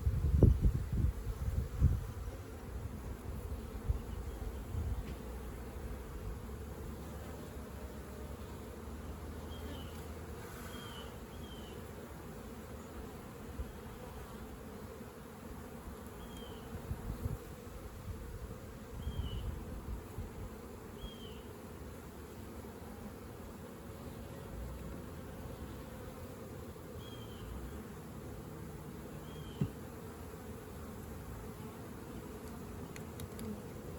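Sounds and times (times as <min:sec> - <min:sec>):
bees buzzing: 0:00.0 - 0:33.9.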